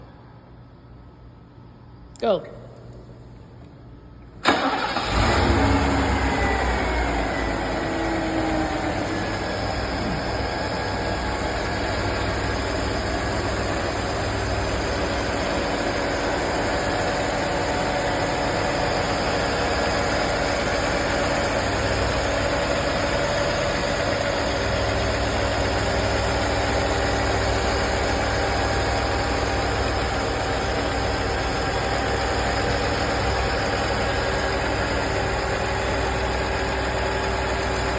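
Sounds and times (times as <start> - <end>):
car engine starting and idling: 4.3 - 37.9.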